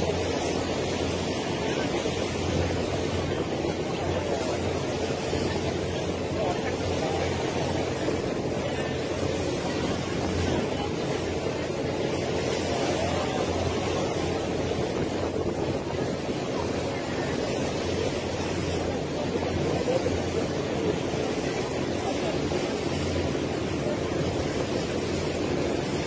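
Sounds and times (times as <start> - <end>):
boat engine droning: 0.0 - 26.0
water rushing past hull: 0.0 - 26.0.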